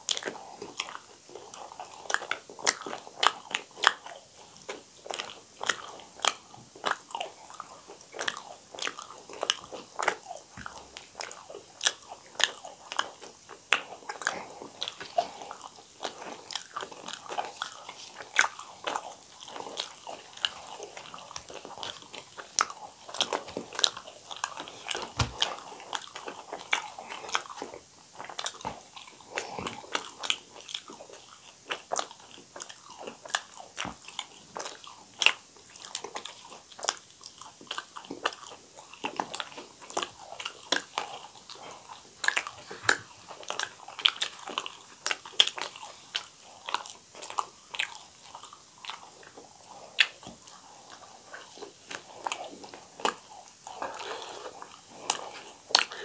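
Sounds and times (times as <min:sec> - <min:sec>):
people chewing crunchy food: 0:00.0 - 0:56.0.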